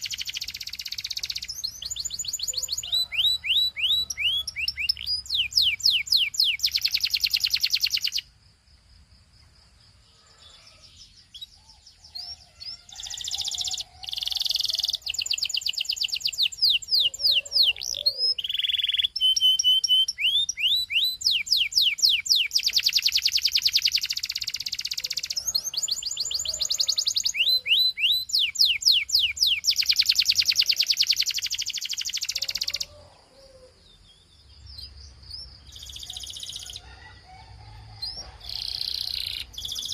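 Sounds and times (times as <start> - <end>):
canary singing: 0.0 - 8.3, 10.4 - 39.9.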